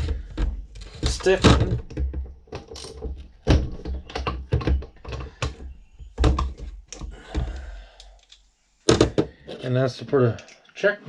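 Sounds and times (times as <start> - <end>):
transmission parts and tools handled: 0.0 - 10.8.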